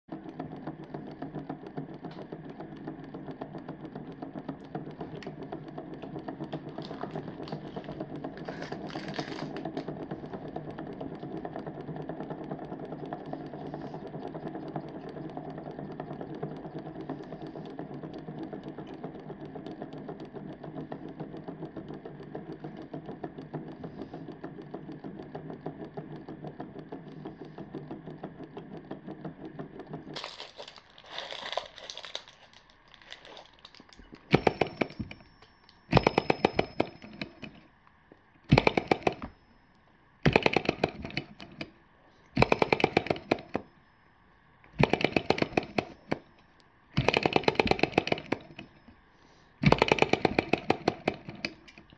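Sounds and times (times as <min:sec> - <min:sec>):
rapid even clicking: 0:00.1 - 0:31.0, 0:31.8 - 0:39.5, 0:40.2 - 0:43.8, 0:44.7 - 0:51.9.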